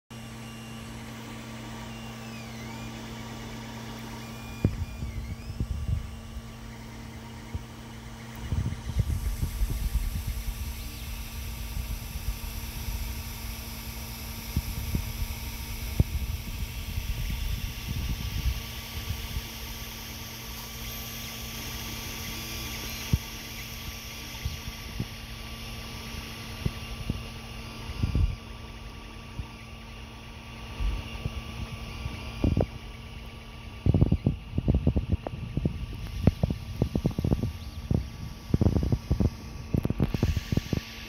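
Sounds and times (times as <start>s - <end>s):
motor whines: 0.1s - 41.0s
printer fans and motors humming: 0.1s - 41.0s.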